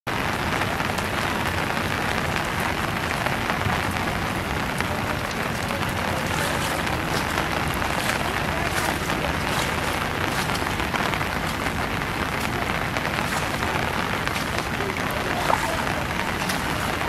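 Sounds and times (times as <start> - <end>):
rain falling on water: 0.1 - 17.0.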